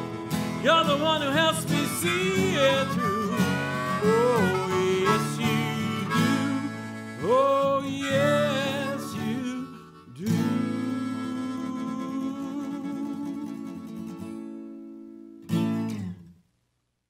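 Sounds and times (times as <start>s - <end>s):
harmonica playing: 0.0s - 14.4s
acoustic guitar strumming: 0.0s - 16.4s.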